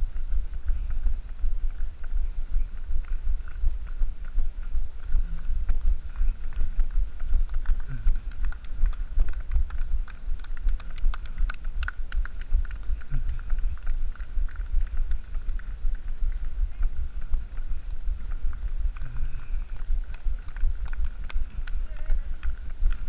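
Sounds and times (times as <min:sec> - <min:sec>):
clicks and knocks of strides: 0:00.0 - 0:23.0
wind on microphone: 0:00.0 - 0:23.0.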